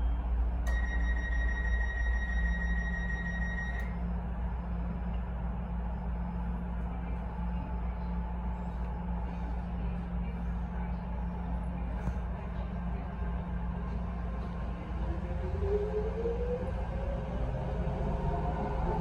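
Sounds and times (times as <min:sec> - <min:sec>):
faint whine: 0:00.0 - 0:17.0
train humming at station: 0:00.0 - 0:19.0.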